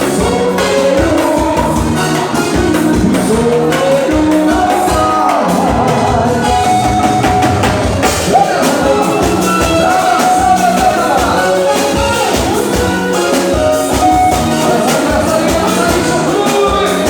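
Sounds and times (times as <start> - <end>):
driving drum beat: 0.0 - 17.0
person singing: 0.0 - 17.0
upbeat dance music: 0.0 - 17.0.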